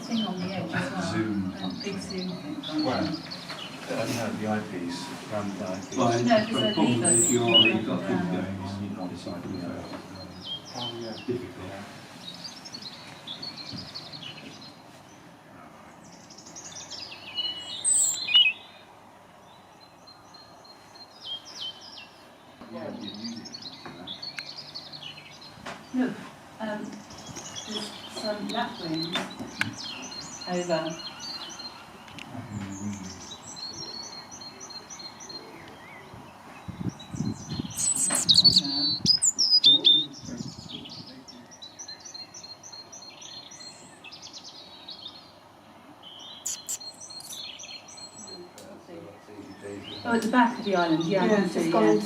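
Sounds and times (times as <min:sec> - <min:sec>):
sweeping falling bird calls: 0:00.0 - 0:08.4, 0:09.0 - 0:52.0
birds chirping: 0:00.0 - 0:52.0.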